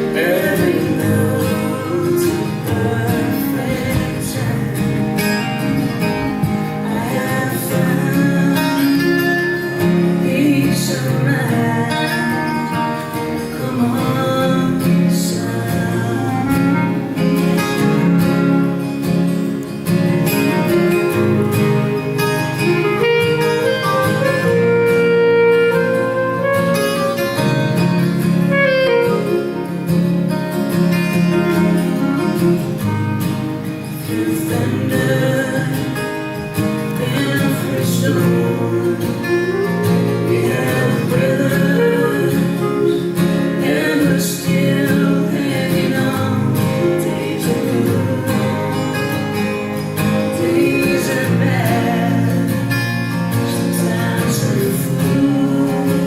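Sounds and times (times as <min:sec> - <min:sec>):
guitar: 0:00.0 - 0:56.0
live band playing: 0:00.0 - 0:56.0.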